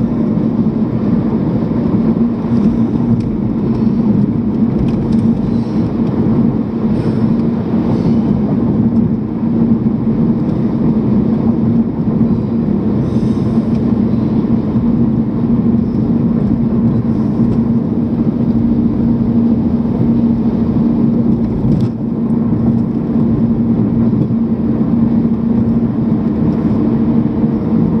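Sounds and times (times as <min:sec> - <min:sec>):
constant low hum: 0:00.0 - 0:28.0
road and engine noise in car: 0:00.0 - 0:28.0
tyres on road: 0:00.0 - 0:28.0.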